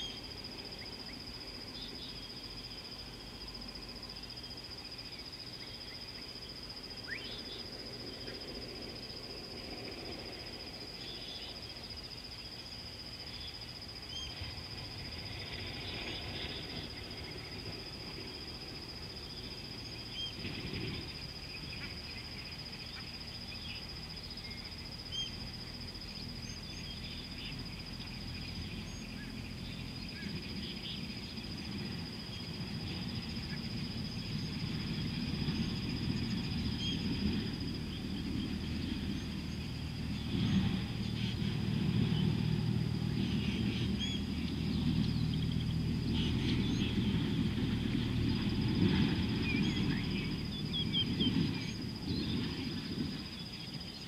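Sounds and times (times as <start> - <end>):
low background rumble: 0.0 - 54.0
steady high-pitched whine: 0.0 - 54.0.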